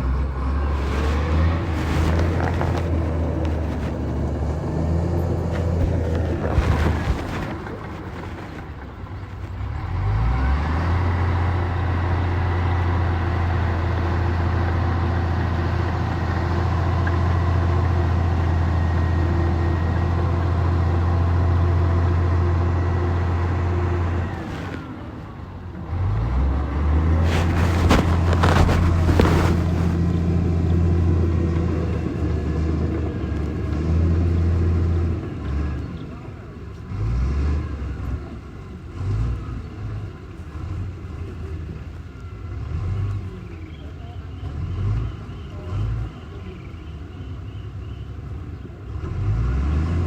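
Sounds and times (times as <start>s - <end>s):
diesel engine under load: 0.0s - 50.0s.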